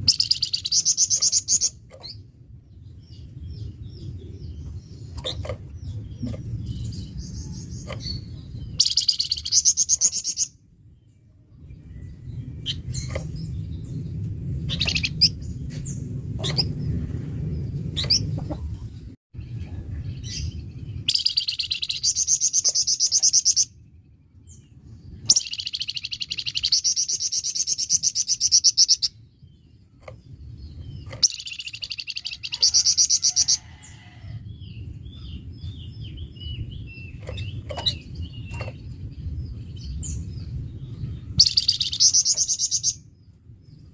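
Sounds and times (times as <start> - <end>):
low background rumble: 0.0 - 43.9.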